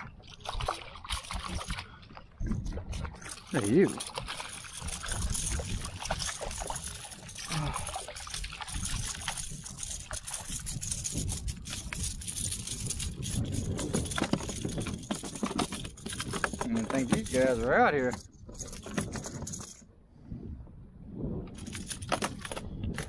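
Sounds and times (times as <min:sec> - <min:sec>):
fish splashing and thrashing: 0:00.0 - 0:19.8.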